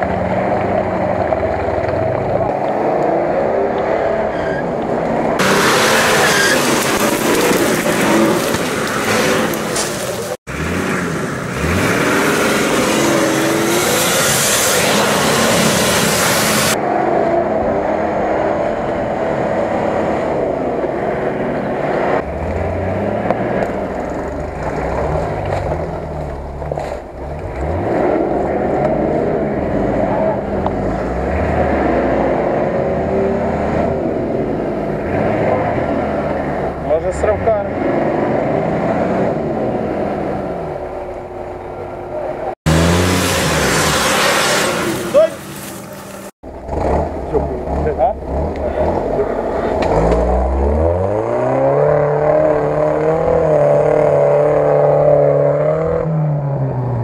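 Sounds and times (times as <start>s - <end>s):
engine revving in mud: 0.0s - 57.0s.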